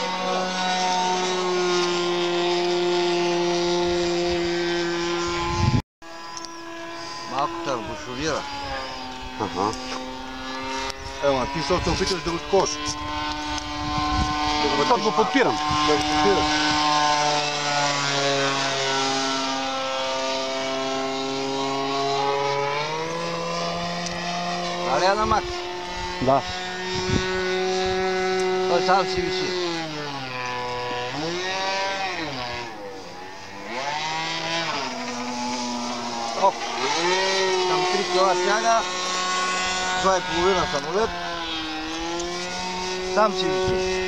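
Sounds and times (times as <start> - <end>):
model airplane propeller buzzing: 0.0 - 44.0.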